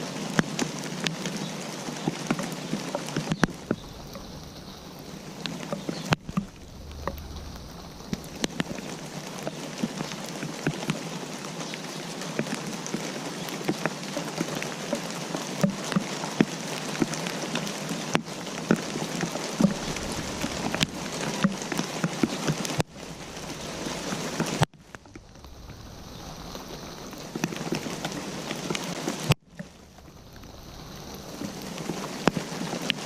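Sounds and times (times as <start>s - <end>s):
raindrops tapping sharply: 0.0s - 33.0s
steady rain falling: 0.0s - 33.0s.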